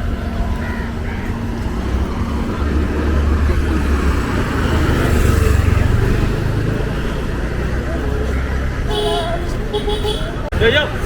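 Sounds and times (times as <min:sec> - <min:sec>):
vehicle passing with low rumble: 0:00.0 - 0:09.7.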